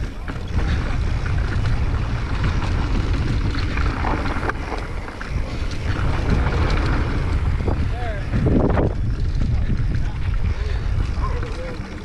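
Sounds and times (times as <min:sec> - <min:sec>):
bike clicks and rattles: 0:00.0 - 0:12.0
tyre noise on dirt: 0:00.0 - 0:12.0
wind buffeting microphone: 0:00.0 - 0:12.0.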